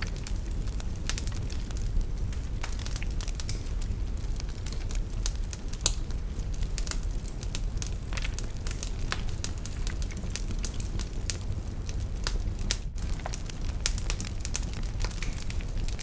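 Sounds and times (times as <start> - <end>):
fire rumbling: 0.0 - 16.0
wood fire crackling and popping: 0.0 - 16.0.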